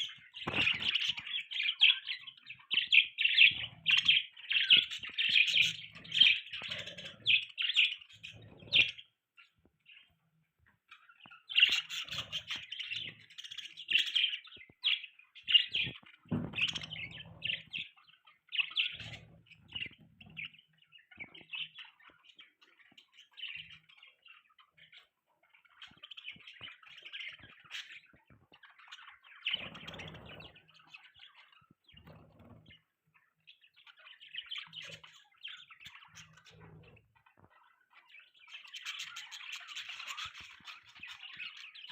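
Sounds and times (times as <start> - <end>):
budgerigars chirping and warbling: 0.0 - 41.9.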